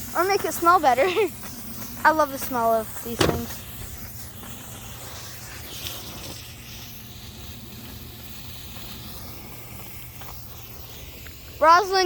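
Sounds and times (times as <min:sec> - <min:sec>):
smoke fireworks hissing: 0:00.0 - 0:12.0.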